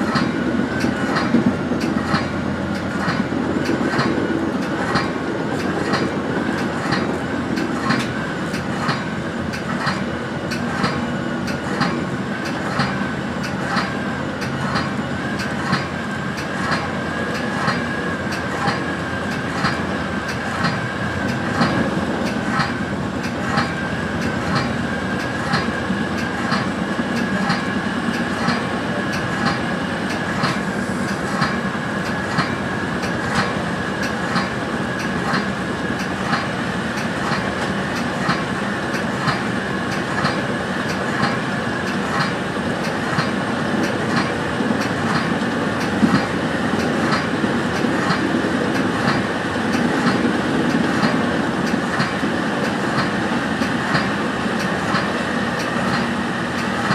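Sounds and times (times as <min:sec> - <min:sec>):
train rumble: 0:00.0 - 0:56.9
wheels clacking over rail joints: 0:00.0 - 0:56.9.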